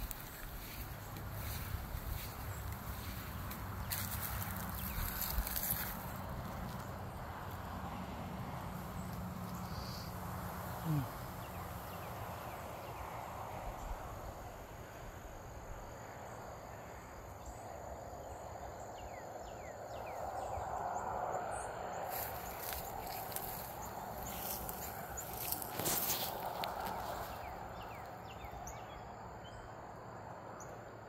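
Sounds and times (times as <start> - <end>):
high insect hum: 0.0 - 31.0.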